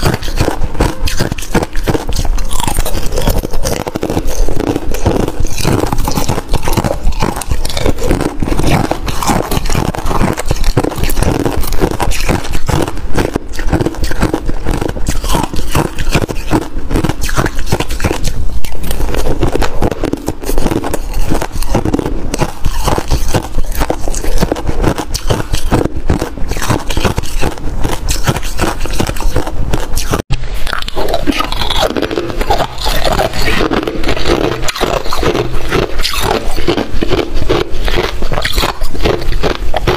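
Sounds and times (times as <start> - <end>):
chewing crunchy frost: 0.0 - 39.9
spoon scraping through frost: 0.0 - 39.9.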